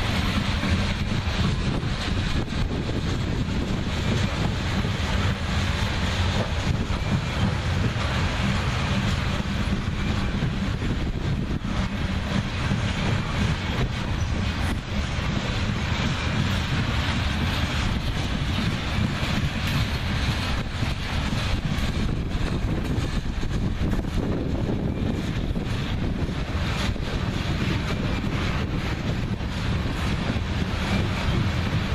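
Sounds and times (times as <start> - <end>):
freight train wheels rumbling: 0.0 - 31.9
wheels clicking over rail joints: 0.0 - 31.9.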